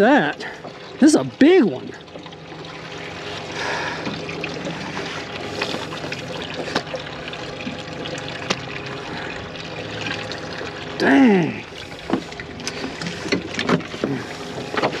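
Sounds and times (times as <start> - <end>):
water trickling and sloshing: 0.0 - 15.0.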